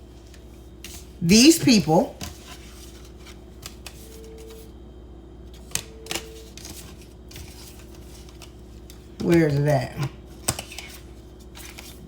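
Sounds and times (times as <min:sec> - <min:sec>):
low steady hum: 0:00.0 - 0:12.0
cards being handled: 0:00.1 - 0:04.8, 0:05.5 - 0:12.0.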